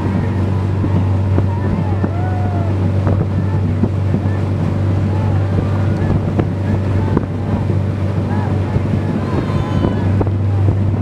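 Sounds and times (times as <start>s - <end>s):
outboard motor droning: 0.0s - 11.0s
wind buffeting microphone: 0.0s - 11.0s.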